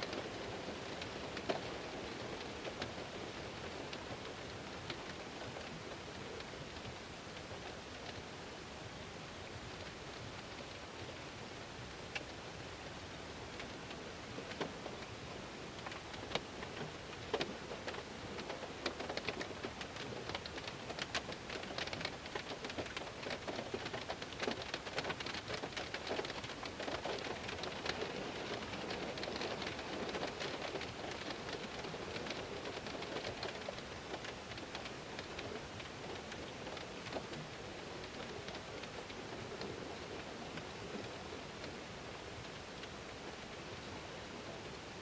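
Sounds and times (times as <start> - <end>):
heavy rain on car window: 0.0 - 45.0.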